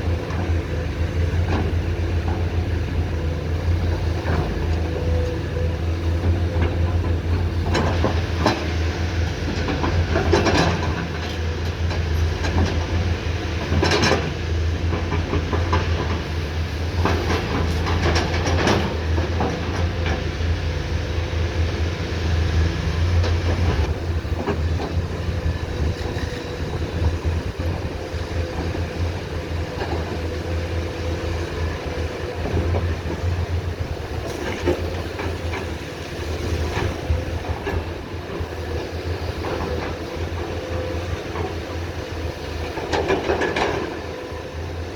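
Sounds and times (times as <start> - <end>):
excavator diesel engine humming: 0.0 - 44.9.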